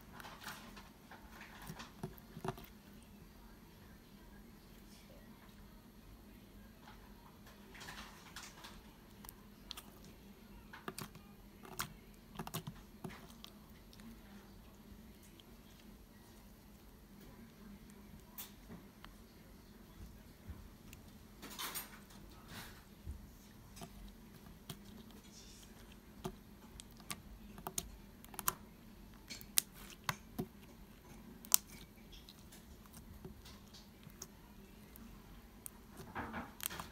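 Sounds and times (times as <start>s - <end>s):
slime squishing: 0.0s - 3.0s, 7.7s - 36.9s.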